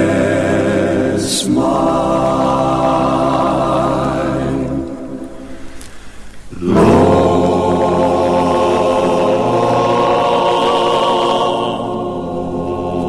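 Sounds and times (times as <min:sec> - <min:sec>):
choir and band holding chord: 0:00.0 - 0:05.8, 0:06.5 - 0:13.0.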